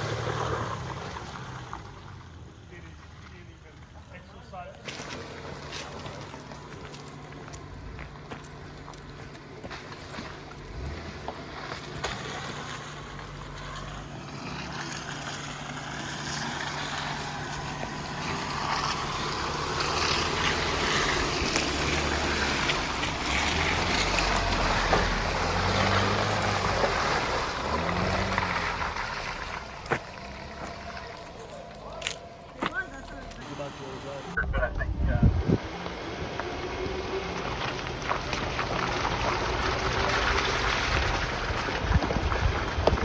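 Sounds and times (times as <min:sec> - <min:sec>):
vehicle engine revving under load: 0:00.0 - 0:04.1, 0:04.7 - 0:43.0
tyres scrabbling on dirt and rock: 0:00.0 - 0:34.0, 0:34.6 - 0:43.0.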